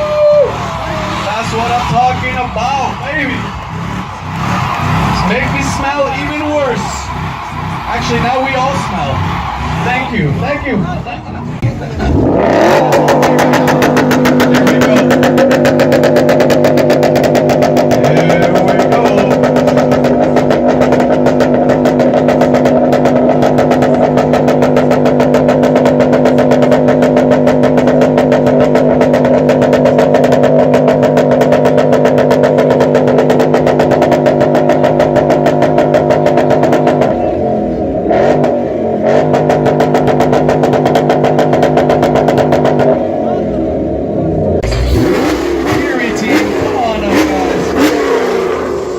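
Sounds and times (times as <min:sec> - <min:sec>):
car engine revving high: 0:00.0 - 0:48.9.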